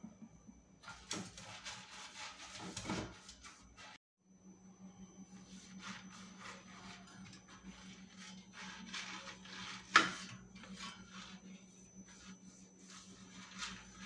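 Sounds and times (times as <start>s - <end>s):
brush rubbing oil on metal basket: 0.8s - 4.0s, 5.4s - 14.0s.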